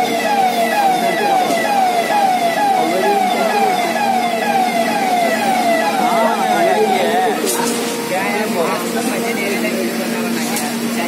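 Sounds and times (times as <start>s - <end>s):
electronic siren falling tone: 0.0s - 9.5s.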